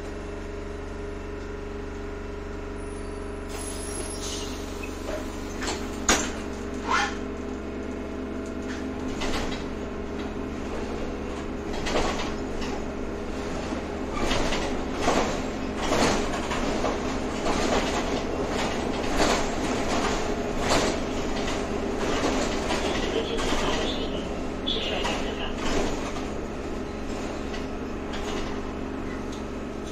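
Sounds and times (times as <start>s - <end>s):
knocks and rattles of tram body: 4.7s - 29.9s.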